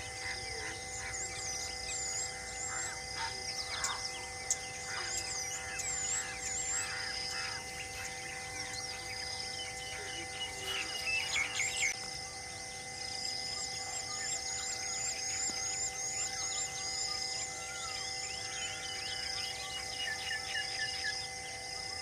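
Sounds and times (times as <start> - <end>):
birds chirping: 0.0 - 22.0
drone of held tones: 0.0 - 22.0.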